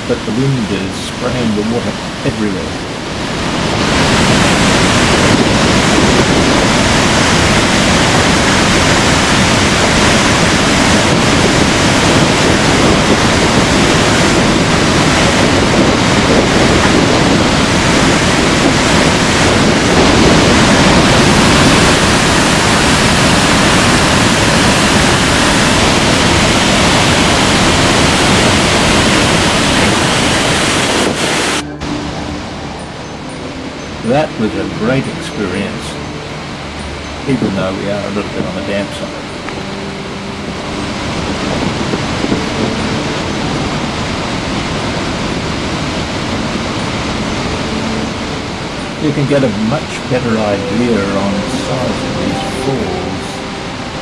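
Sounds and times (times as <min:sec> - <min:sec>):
wind buffeting microphone: 0:00.0 - 0:51.5
waterfall roaring: 0:00.0 - 0:54.0.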